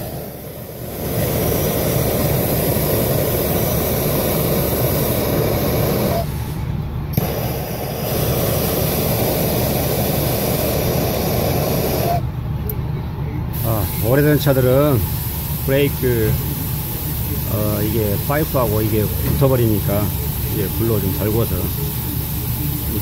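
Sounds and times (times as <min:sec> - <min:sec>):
gas torch flame roaring: 0:00.0 - 0:12.3, 0:13.5 - 0:23.0.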